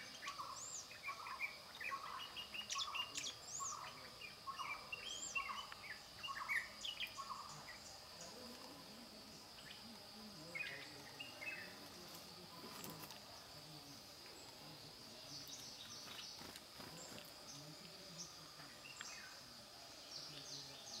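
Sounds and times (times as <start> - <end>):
birds chirping: 0.0 - 21.0
insect-like trill: 0.0 - 21.0.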